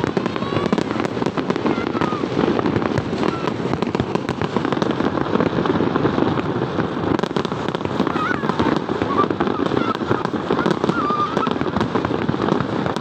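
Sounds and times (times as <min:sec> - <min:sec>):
faint firework whistles: 0:00.0 - 0:13.0
fireworks crackling and banging: 0:00.0 - 0:13.0.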